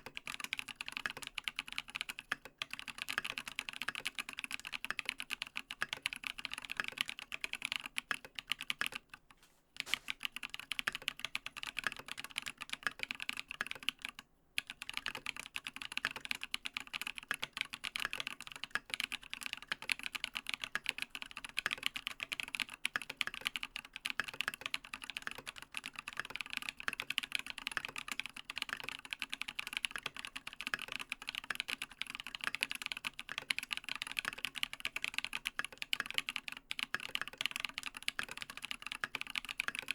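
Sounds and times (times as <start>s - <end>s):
fast mechanical keyboard typing: 0.0s - 9.1s, 9.8s - 39.9s.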